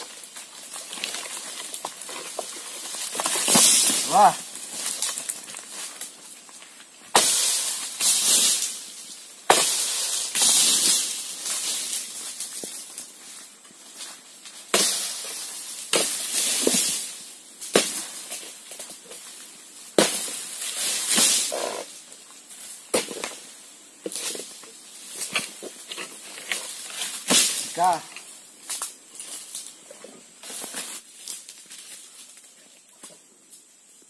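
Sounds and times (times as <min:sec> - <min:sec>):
palm fronds rustling: 0:00.0 - 0:34.0.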